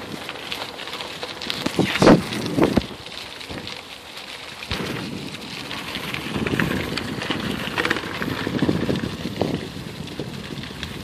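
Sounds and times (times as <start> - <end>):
bicycle tyres rolling over dry leaves: 0.0 - 11.0.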